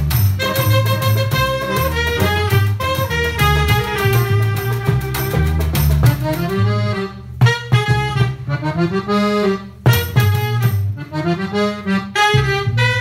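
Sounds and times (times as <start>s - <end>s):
accordion melody: 0.0s - 13.0s
brass band music: 0.0s - 13.0s
low bass line: 0.0s - 13.0s.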